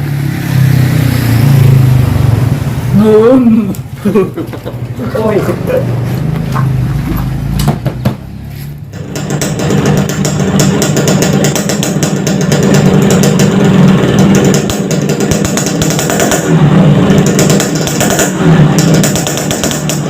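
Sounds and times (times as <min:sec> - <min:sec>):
two-stroke motorcycle engine running: 0:00.0 - 0:20.0.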